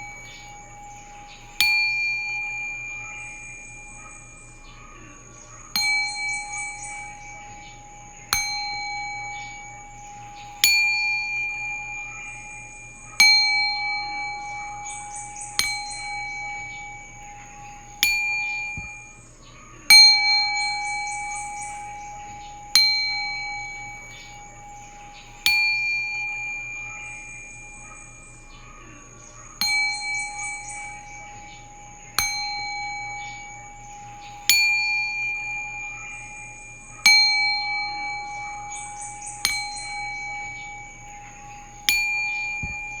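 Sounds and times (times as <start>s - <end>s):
metal bell ringing: 0.0s - 28.8s, 29.6s - 43.0s.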